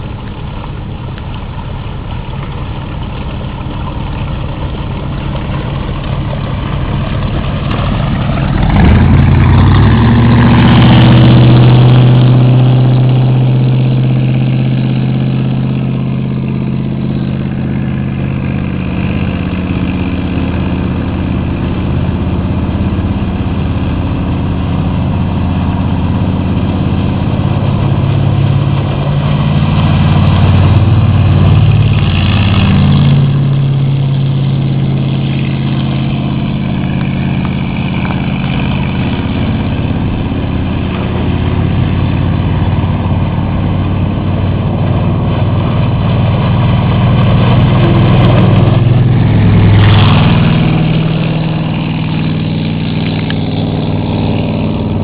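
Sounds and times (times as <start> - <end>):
boat engine passing by: 0.0 - 55.0.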